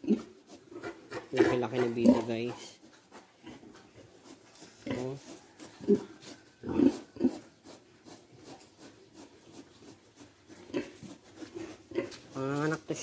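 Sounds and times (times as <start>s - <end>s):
pig grunting: 0.0s - 12.5s.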